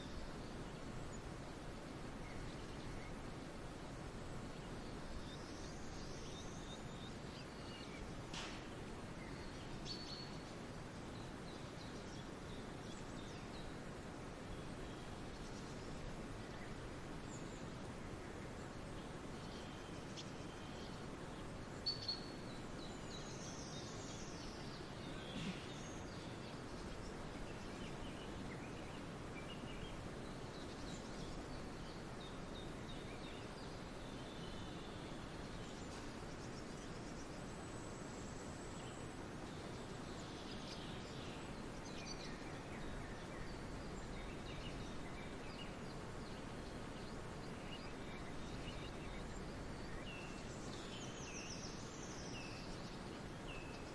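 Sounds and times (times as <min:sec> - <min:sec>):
low background hiss: 0:00.0 - 0:53.9.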